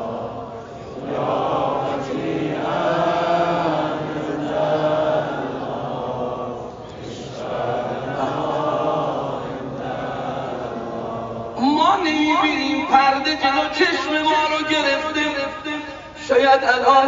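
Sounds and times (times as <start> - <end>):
person chanting: 0.0 - 17.0.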